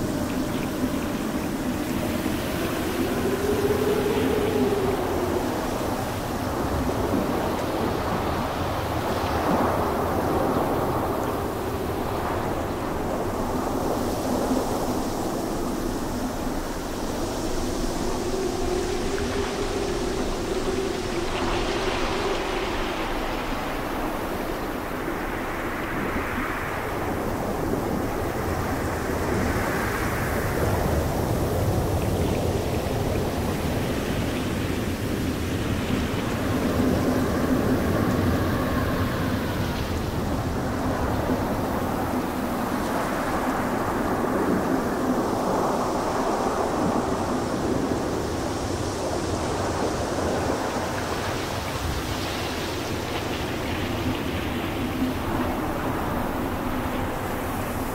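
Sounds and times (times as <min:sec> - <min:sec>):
wind rushing in gusts: 0:00.0 - 0:57.9.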